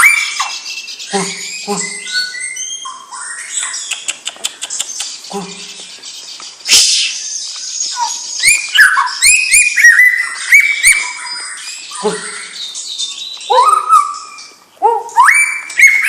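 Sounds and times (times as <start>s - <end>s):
bird singing whistled phrases: 0.0s - 16.0s.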